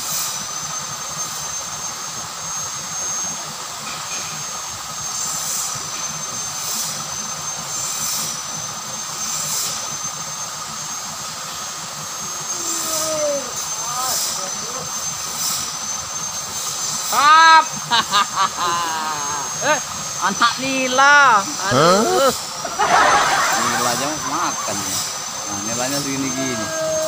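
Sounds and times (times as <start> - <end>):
faint high whine: 0.0 - 27.0.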